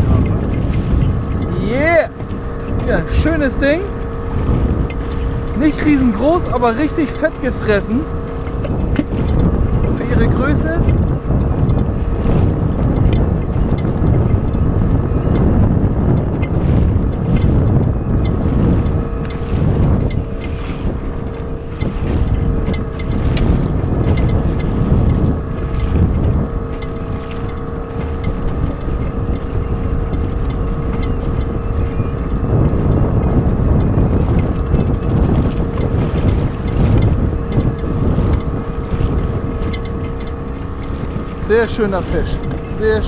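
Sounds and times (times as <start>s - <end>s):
outboard motor running: 0.0s - 43.0s
wind buffeting microphone: 0.0s - 43.0s.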